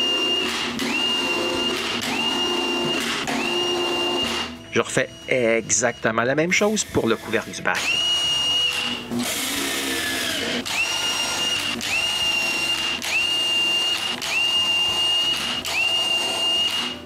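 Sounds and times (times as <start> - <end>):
cordless drill whining: 0.0 - 4.6, 6.8 - 17.0.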